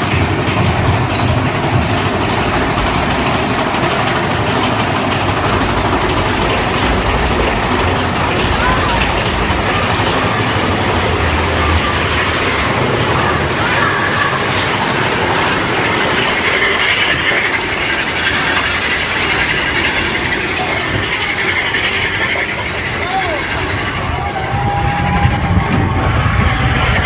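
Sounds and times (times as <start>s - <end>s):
roller coaster rattling on track: 0.0s - 27.0s.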